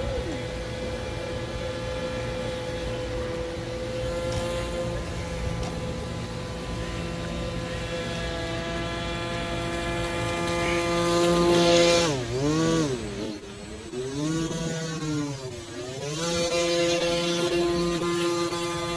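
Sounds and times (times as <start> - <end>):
airboat motor and propeller whine: 0.0 - 18.9.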